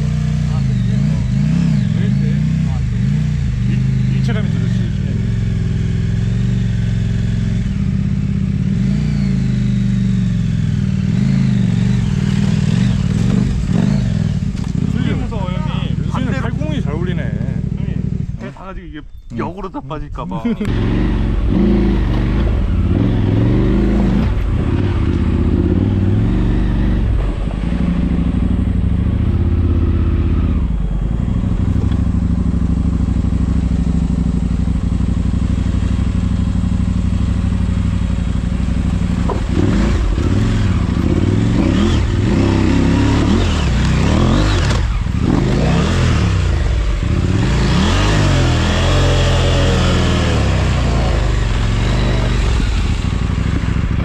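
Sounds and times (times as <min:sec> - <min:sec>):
motorcycle engine revving: 0:00.0 - 0:19.6, 0:20.4 - 0:54.0.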